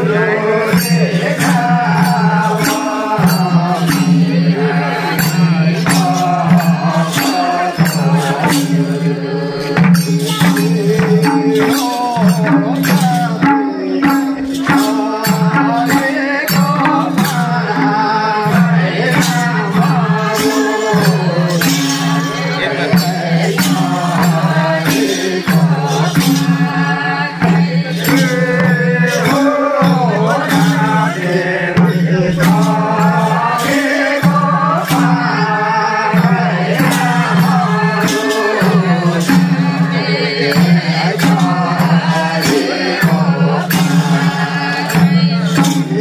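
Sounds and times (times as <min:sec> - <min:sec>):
percussion striking: 0:00.0 - 0:46.0
voices singing: 0:00.0 - 0:46.0.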